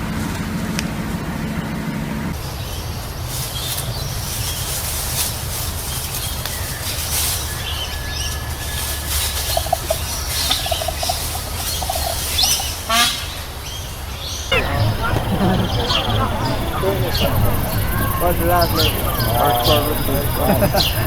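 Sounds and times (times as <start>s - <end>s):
steady low rumble: 0.0s - 21.0s
fowl rattling calls: 2.4s - 21.0s.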